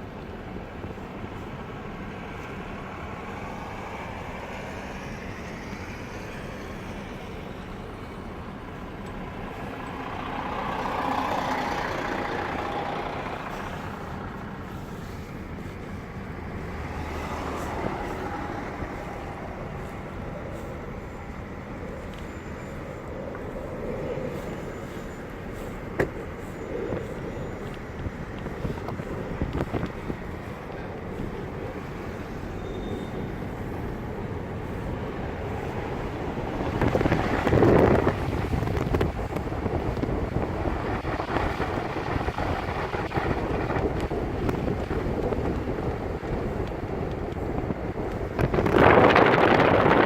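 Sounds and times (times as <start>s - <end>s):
rumble of engines and traffic: 0.0s - 50.0s.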